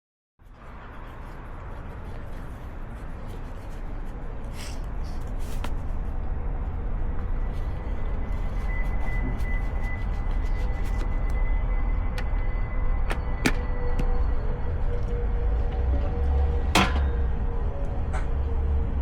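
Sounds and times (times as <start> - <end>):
road noise: 0.4 - 19.0
faint whine: 0.7 - 19.0.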